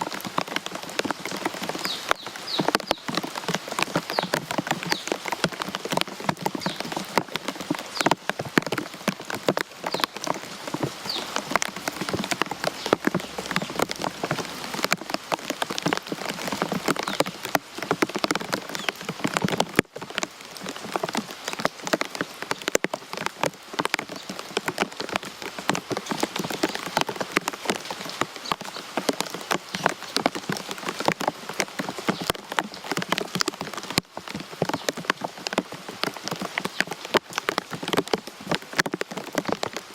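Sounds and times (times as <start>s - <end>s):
rain falling: 0.0s - 39.9s
raindrops striking close by: 0.0s - 39.9s.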